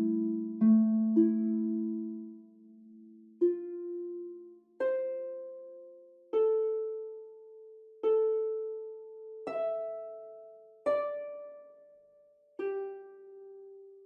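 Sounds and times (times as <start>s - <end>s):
plucked notes relaxation music: 0.0s - 14.0s.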